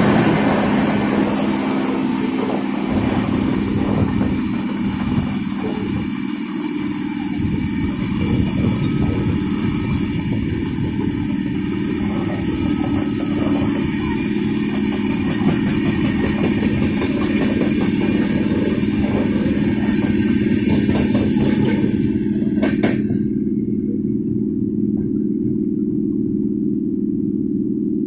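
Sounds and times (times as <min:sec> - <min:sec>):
trains rumbling and humming: 0:00.0 - 0:27.0.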